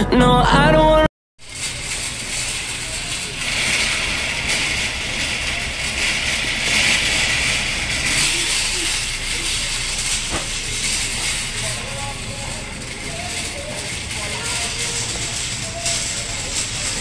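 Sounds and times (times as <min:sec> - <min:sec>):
shopping cart rolling on tiles: 0:01.4 - 0:17.0.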